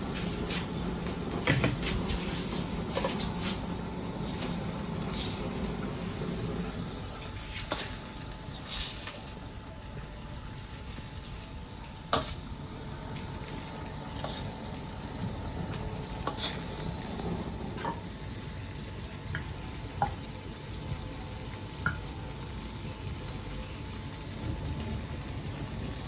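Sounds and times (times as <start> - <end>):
leaves sizzling in a wok: 0.0 - 9.7, 10.5 - 26.0.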